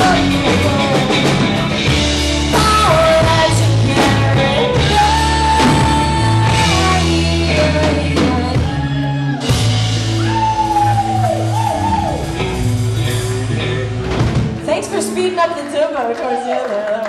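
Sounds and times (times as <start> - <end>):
pitch-bending lead guitar line: 0.0 - 16.0
live rock band playing: 0.0 - 16.2.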